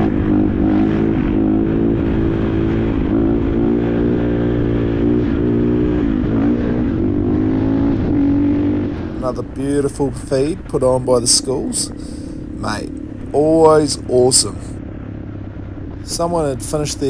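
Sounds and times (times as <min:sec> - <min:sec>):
low rumble: 0:00.0 - 0:17.0
motorcycle engine running: 0:00.0 - 0:17.0.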